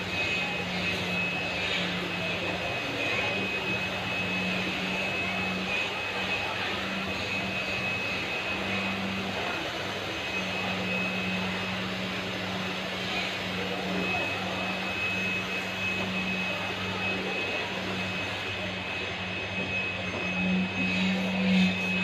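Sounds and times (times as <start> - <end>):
motor hum: 0.0 - 22.0
thin high whine: 0.0 - 22.0.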